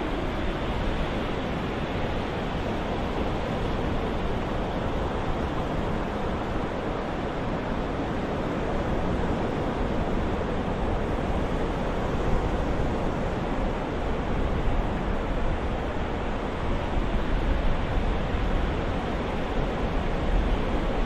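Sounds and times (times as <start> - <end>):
ocean waves washing: 0.0 - 21.0.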